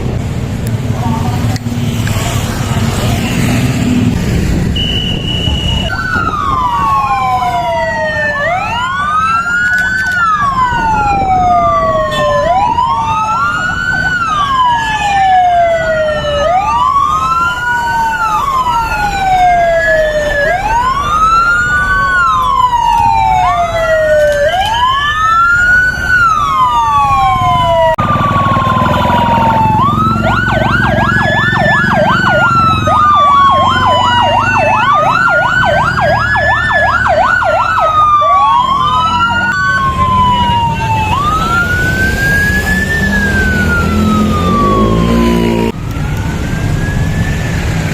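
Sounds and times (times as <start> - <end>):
vehicle sirens wailing: 0.0 - 47.9
siren fast yelp: 4.8 - 47.6.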